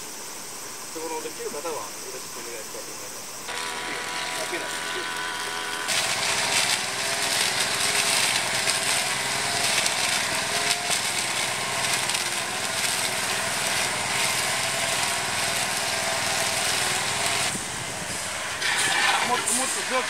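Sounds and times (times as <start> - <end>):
brush cutter engine cutting grass: 3.5 - 20.0.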